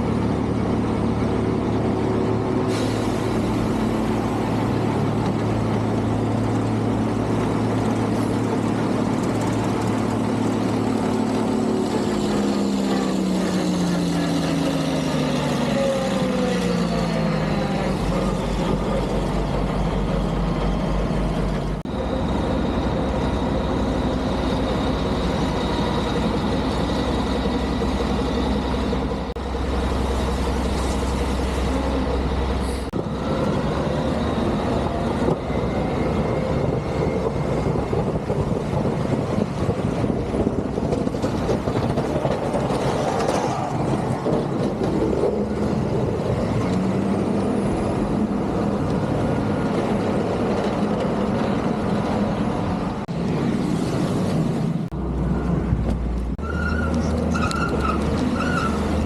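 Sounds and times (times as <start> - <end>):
heavy vehicle engines running: 0.0 - 59.0.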